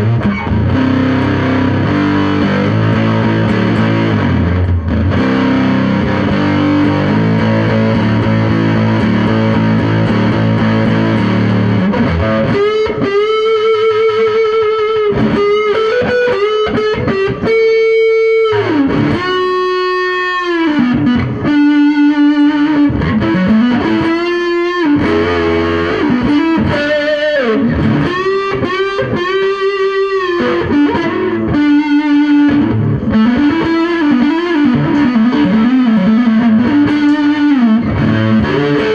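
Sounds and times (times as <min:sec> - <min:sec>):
fuzz electric guitar: 0:00.0 - 0:38.9.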